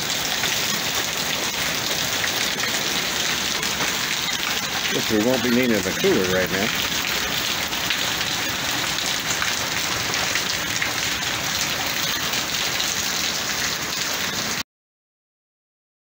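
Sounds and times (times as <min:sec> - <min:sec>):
heavy rain pouring: 0:00.0 - 0:14.6
water streaming off a roof: 0:00.0 - 0:14.6.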